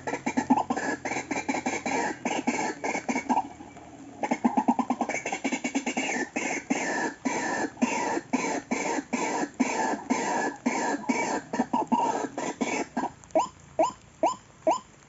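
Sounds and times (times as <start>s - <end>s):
bird harsh croaking calls: 0.0s - 3.6s, 4.2s - 14.9s.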